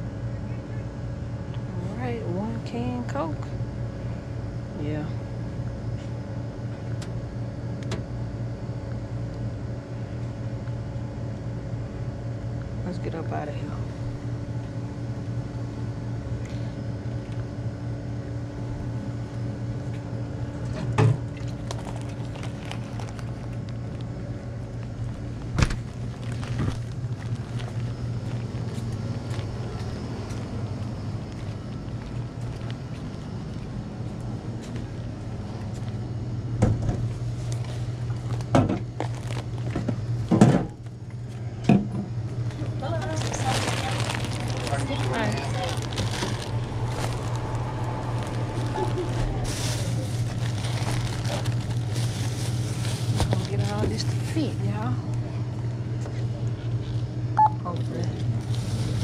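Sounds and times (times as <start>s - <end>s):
drink cooler humming: 0.0s - 59.0s.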